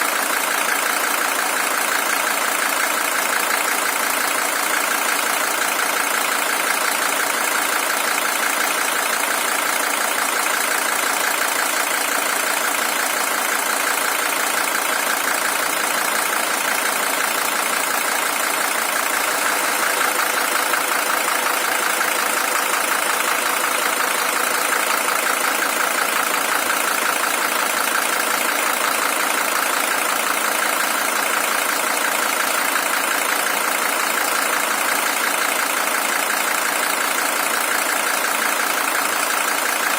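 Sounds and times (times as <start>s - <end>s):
diesel engine idling with clatter: 0.0s - 39.9s.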